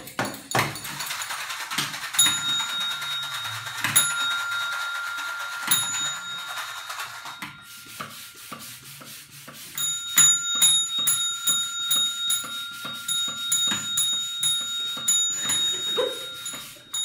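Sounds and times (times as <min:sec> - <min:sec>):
desk service bell ringing: 0:00.2 - 0:08.8, 0:09.7 - 0:17.0.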